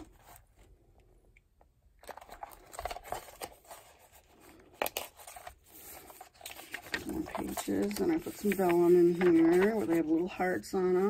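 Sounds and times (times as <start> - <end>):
paper rustling and crinkling: 2.0 - 11.0.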